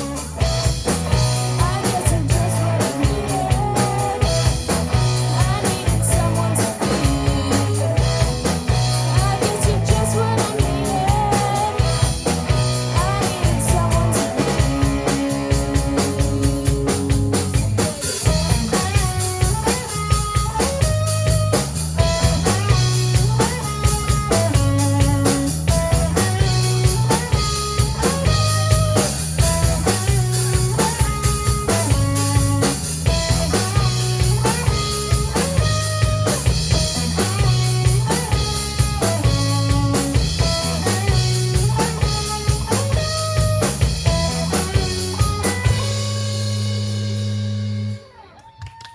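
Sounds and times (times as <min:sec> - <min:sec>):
rock music with drums guitar bass: 0:00.0 - 0:48.4.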